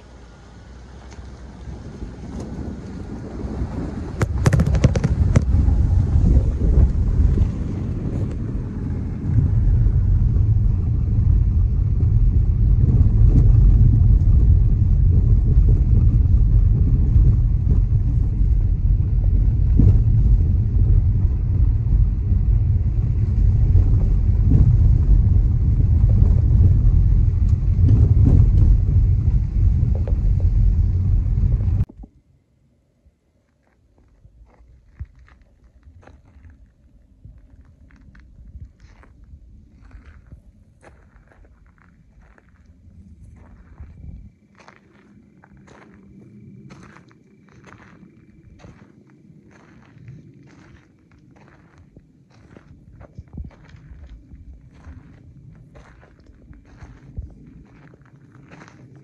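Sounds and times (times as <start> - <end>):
tyres rumbling on gravel: 0.0 - 32.0, 33.6 - 59.0.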